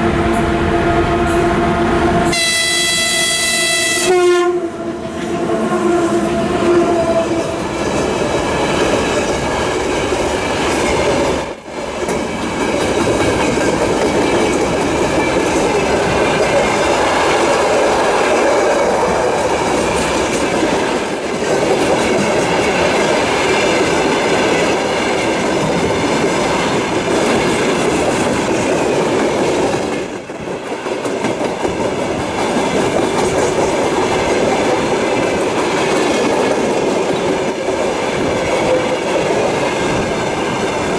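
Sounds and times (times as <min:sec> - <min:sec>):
freight train passing: 0:00.0 - 0:40.9
wheels clattering on rail joints: 0:06.9 - 0:40.9.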